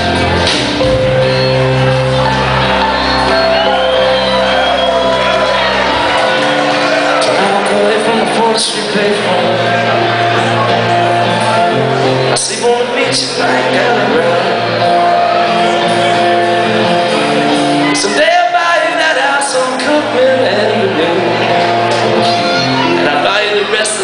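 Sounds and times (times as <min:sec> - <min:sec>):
bass line: 0:00.0 - 0:24.0
electric guitars: 0:00.0 - 0:24.0.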